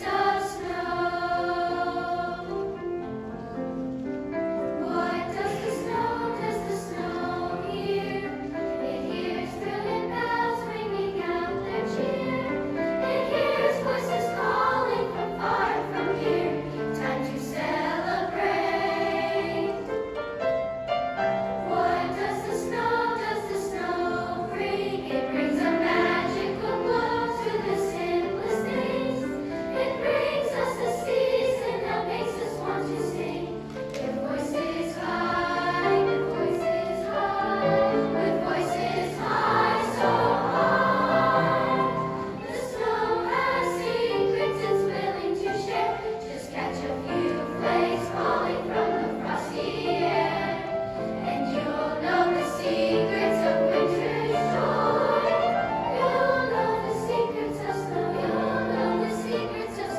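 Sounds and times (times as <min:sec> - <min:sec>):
children's choir singing: 0:00.0 - 0:59.9
piano: 0:00.0 - 0:59.9.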